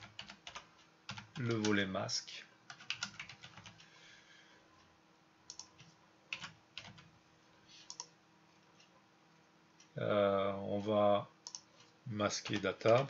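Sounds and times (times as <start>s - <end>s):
faint keyboard typing: 0.0s - 1.9s, 2.7s - 4.0s, 4.8s - 10.0s, 10.6s - 13.0s.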